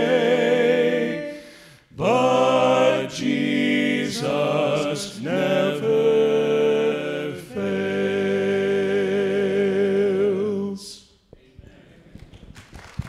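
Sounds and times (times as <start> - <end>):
male vocal quartet singing hymn: 0.0 - 11.1.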